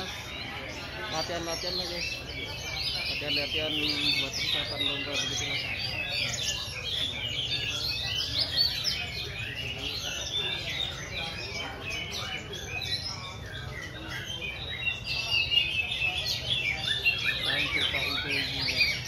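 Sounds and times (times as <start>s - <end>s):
songbirds chirping and whistling: 0.0s - 19.0s.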